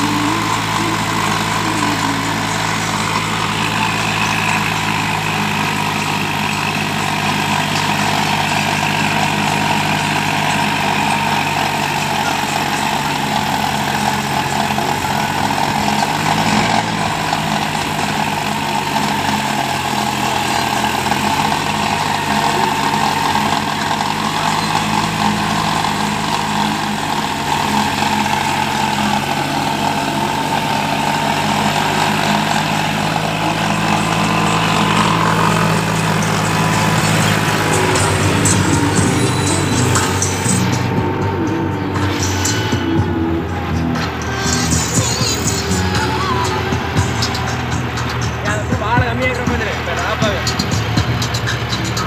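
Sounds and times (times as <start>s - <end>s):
rotavator churning soil: 0.0s - 43.0s
tractor diesel engine under load: 0.0s - 52.0s.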